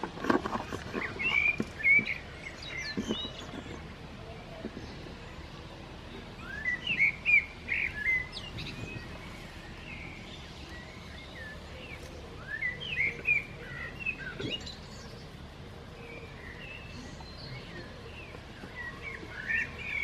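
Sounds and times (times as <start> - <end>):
outdoor background noise: 0.0 - 20.0
songbird chirping: 0.0 - 20.0.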